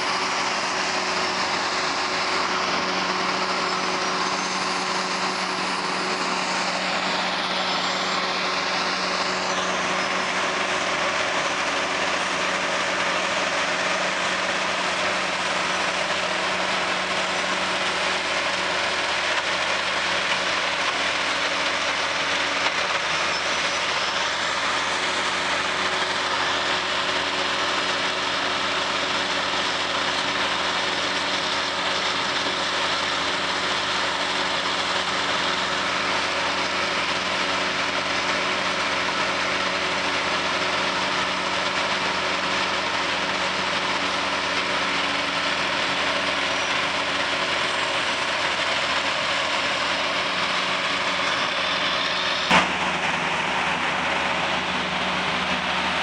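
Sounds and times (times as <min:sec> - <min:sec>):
leaf vacuum engine drone: 0:00.0 - 0:56.0.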